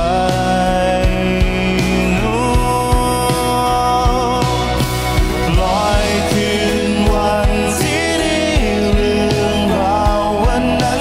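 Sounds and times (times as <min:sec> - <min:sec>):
bass guitar: 0:00.0 - 0:11.0
electric and acoustic guitars: 0:00.0 - 0:11.0
person singing: 0:00.0 - 0:11.0.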